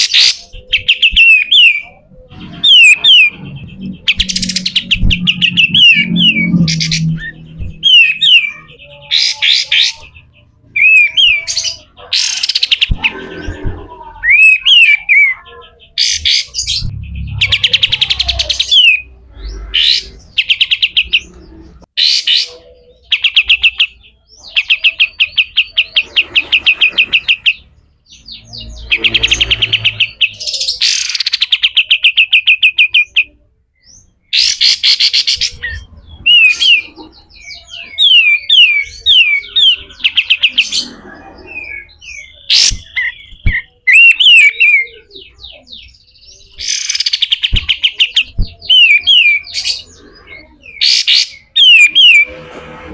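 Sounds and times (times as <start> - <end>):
bird singing slurred notes: 0.0 - 52.9.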